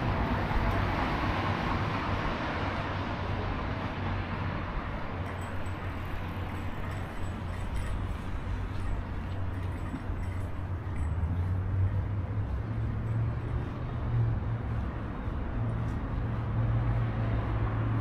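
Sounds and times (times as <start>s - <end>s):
low traffic hum: 0.0s - 18.0s.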